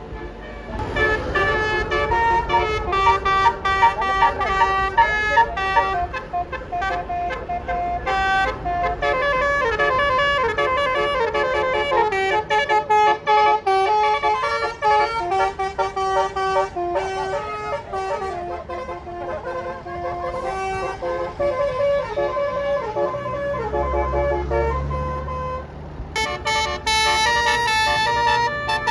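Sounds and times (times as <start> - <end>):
multi-note air horn tune: 0.1 - 28.9.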